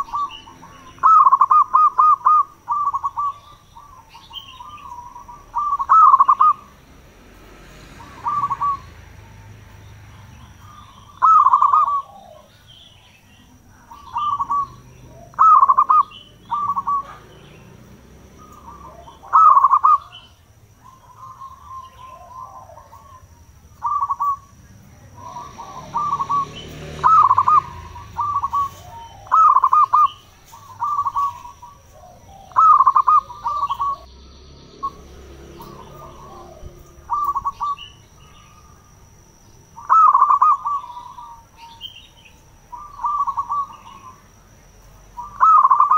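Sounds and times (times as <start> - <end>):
doves cooing: 0.0 - 34.1, 34.7 - 45.9.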